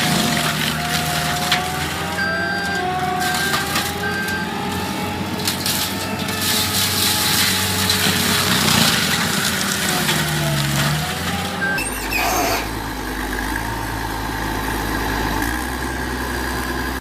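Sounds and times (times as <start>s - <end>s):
wood crushing and splintering: 0.0s - 16.5s
diesel engine under load: 0.0s - 17.0s.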